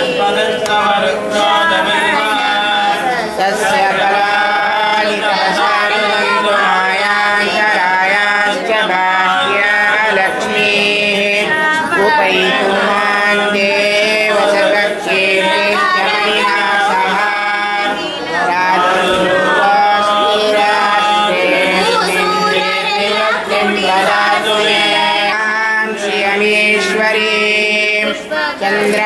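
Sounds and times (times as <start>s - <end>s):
voices chanting devotional hymns: 0.0s - 29.0s.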